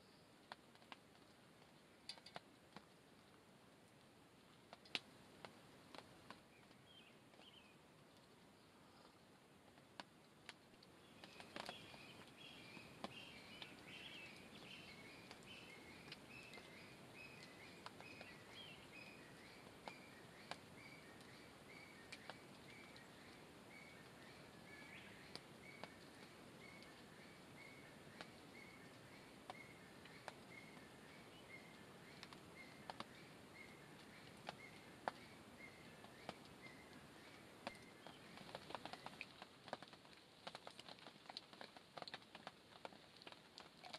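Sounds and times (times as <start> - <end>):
wood fire crackling and popping: 0.5 - 43.9.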